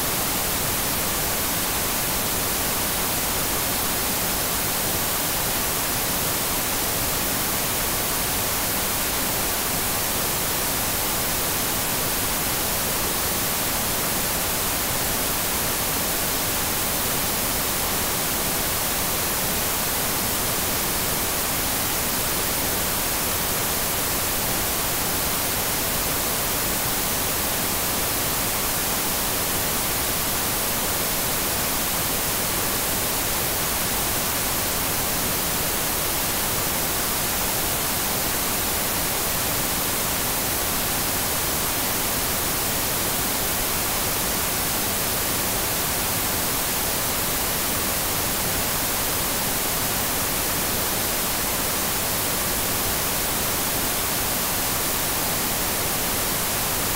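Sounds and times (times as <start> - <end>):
tv static hiss: 0.0 - 56.9.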